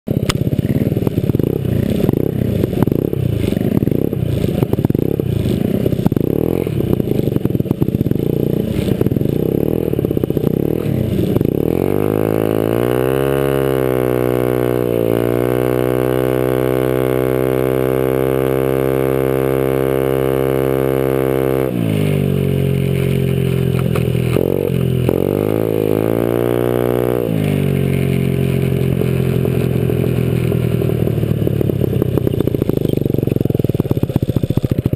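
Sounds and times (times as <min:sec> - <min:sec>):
loud scooter engine: 0:00.1 - 0:34.9.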